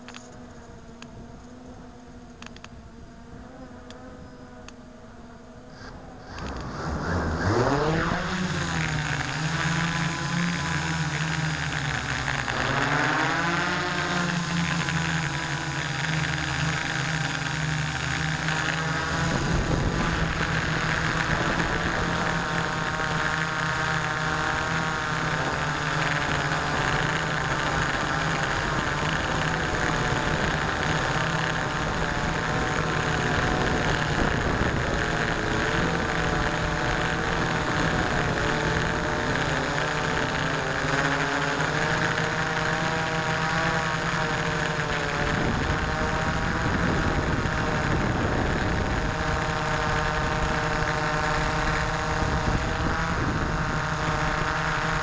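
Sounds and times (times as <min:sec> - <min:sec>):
drone motors and propellers: 0:00.0 - 0:55.0.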